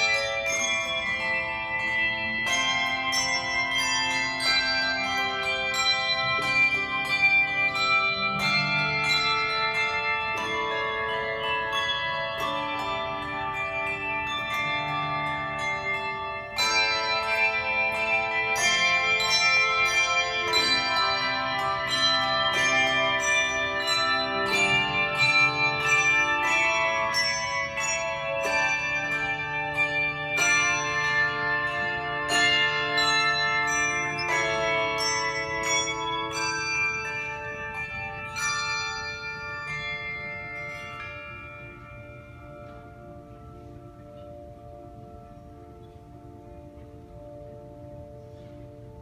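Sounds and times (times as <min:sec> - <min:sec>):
handbell choir playing: 0:00.0 - 0:49.0.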